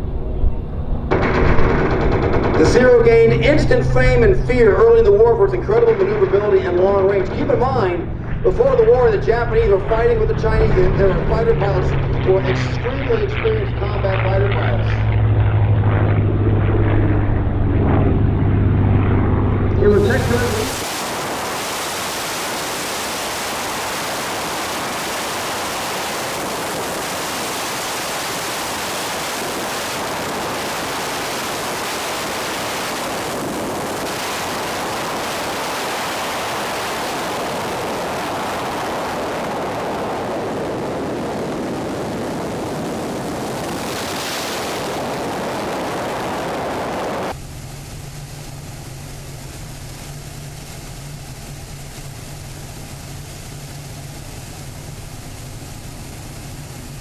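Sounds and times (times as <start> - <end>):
aircraft engine and airflow: 0.0 - 57.0
low engine hum: 0.0 - 57.0.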